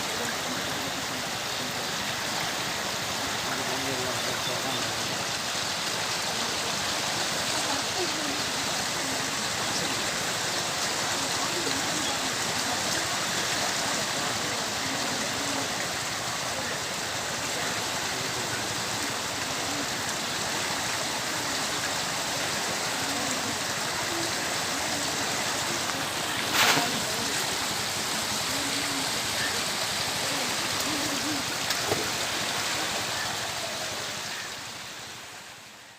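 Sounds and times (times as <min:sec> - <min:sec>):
faint voices: 0:00.0 - 0:35.9
river floodwater rushing: 0:00.0 - 0:35.9.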